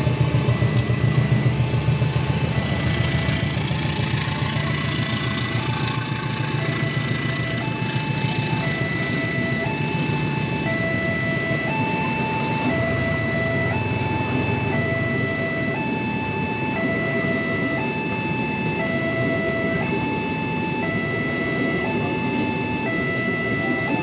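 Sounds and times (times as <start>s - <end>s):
two-tone level crossing alarm: 0.0s - 24.0s.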